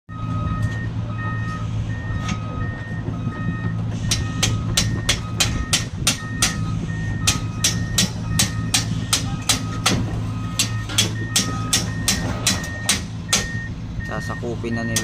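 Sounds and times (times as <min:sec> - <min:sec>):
heavy equipment engine running: 0:00.1 - 0:15.0
two-tone warning alarm beeps: 0:00.1 - 0:15.0.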